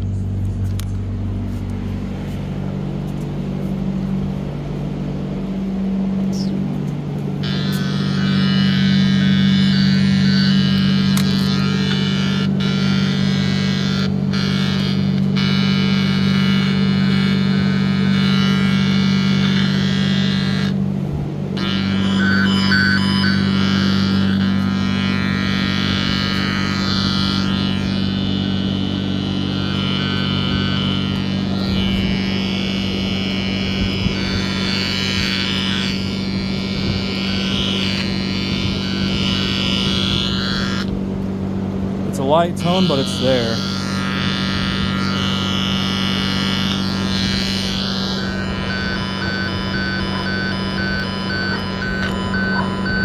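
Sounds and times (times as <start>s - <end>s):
low hum with static: 0.0s - 53.0s
tone tracer probe buzzing: 0.0s - 53.0s.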